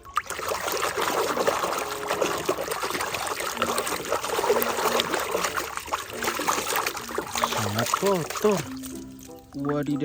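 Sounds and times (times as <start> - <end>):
water running over a toy: 0.0 - 9.6.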